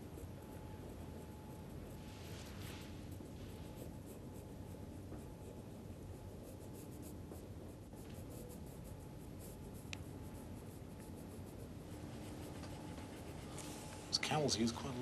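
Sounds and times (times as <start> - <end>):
low equipment hum: 0.0 - 15.0
stylus scratching on tablet: 0.0 - 15.0.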